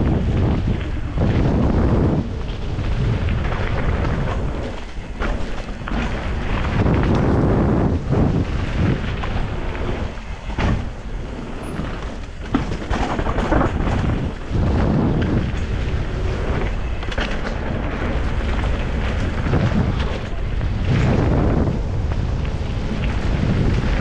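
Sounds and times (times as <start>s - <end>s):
bike clattering over trail: 0.0s - 24.0s
wind rumbling on microphone: 0.0s - 24.0s.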